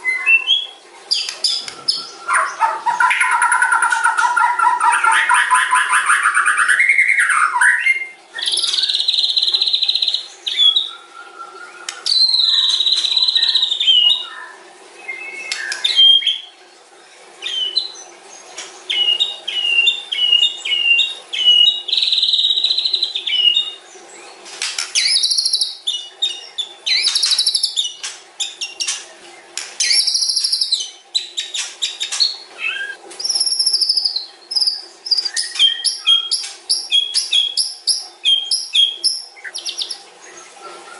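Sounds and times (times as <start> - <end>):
bird singing varied song: 0.0 - 16.6, 17.4 - 40.9.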